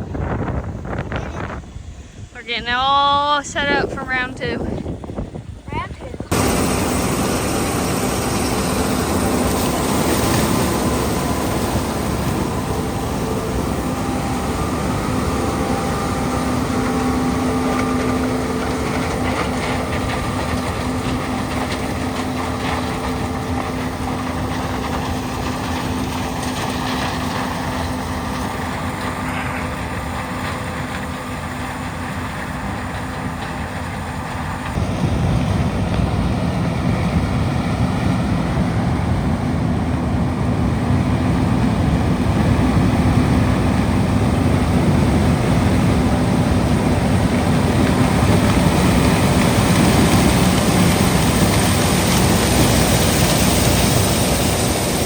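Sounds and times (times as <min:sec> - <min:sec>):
diesel machinery rumble: 0:00.0 - 0:55.0
steady machine whine: 0:00.0 - 0:55.0.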